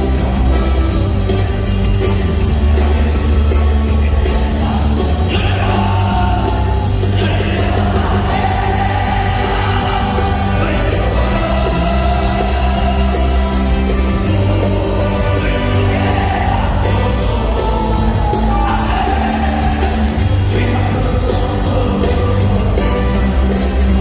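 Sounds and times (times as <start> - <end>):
band with heavy bass and drums: 0.0 - 24.0
person singing: 4.3 - 24.0.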